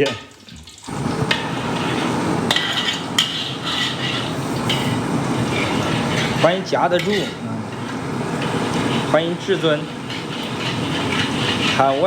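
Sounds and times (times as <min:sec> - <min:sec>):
steady hiss: 0:00.9 - 0:12.0
metal utensils scraping a pot: 0:01.2 - 0:12.0.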